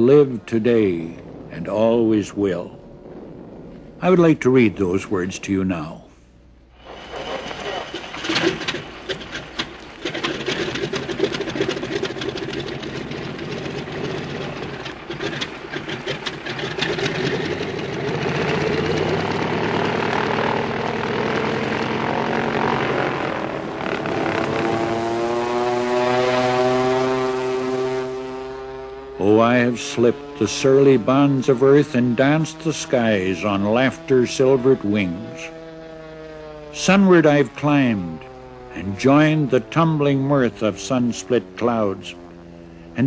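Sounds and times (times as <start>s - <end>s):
propeller aircraft engine: 0.0s - 1.7s, 2.4s - 4.1s, 6.2s - 43.0s.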